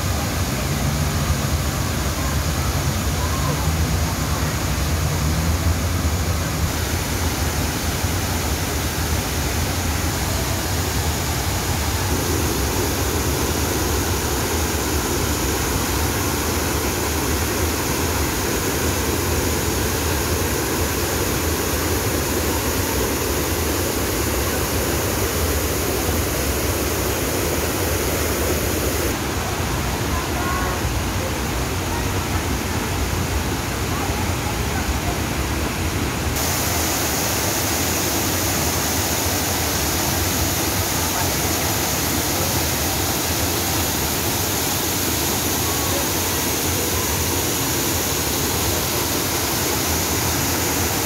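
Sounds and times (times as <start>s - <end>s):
waterfall pouring into pond: 0.0s - 30.0s, 36.4s - 51.0s.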